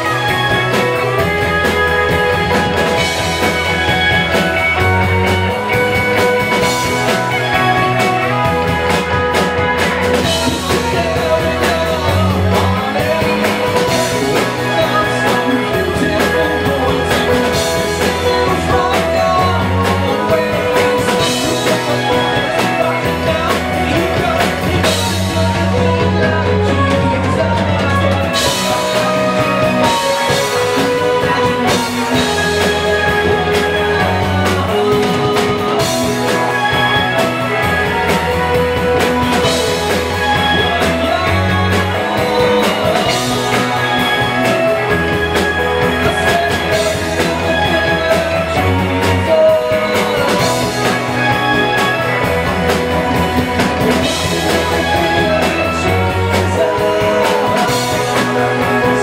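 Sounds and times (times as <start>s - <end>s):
held bass notes: 0.0s - 59.0s
rock band playing: 0.0s - 59.0s.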